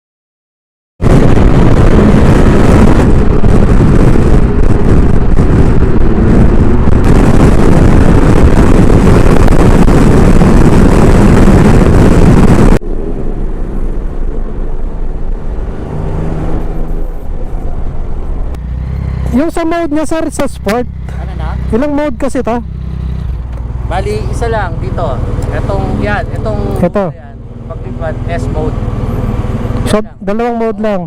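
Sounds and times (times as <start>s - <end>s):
wind buffeting microphone: 1.0s - 30.1s
road and engine noise: 1.0s - 31.0s.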